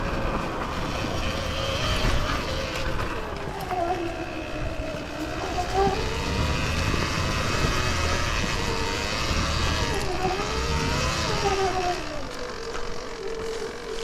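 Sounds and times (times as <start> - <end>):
electric dirt bike motor whining: 0.0 - 14.0.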